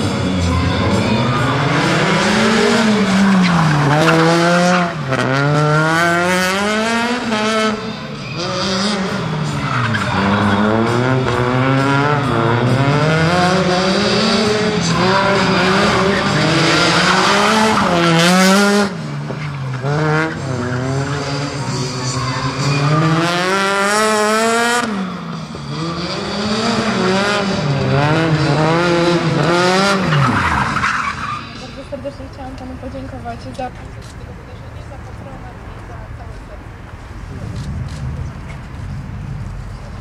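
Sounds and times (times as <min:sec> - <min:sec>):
rally car engine revving: 0:00.0 - 0:33.4.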